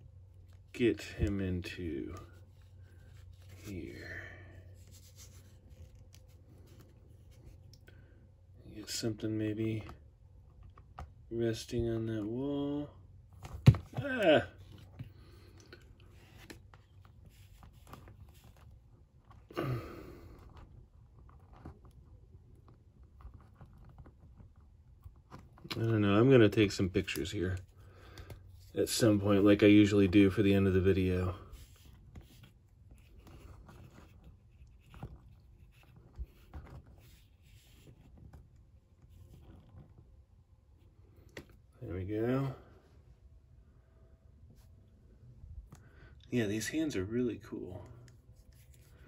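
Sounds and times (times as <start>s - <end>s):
soft plastic scraping and rubbing: 0.0s - 12.4s, 14.4s - 19.6s, 20.2s - 43.3s, 44.4s - 49.0s.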